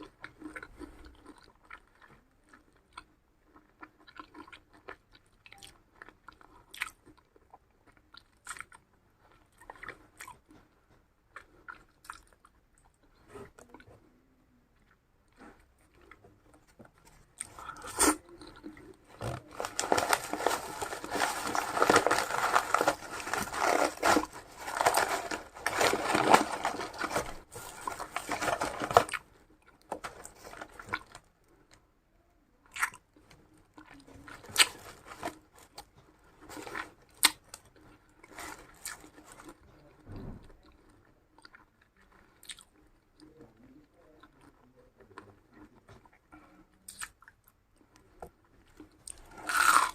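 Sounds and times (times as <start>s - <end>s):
person chewing crunchy food: 0.0s - 14.1s, 14.8s - 31.8s, 32.6s - 39.9s, 46.9s - 49.9s.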